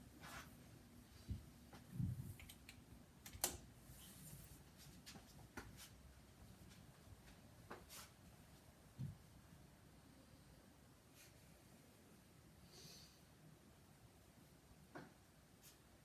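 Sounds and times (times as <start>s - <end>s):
ceiling fan running quietly: 0.0s - 16.0s.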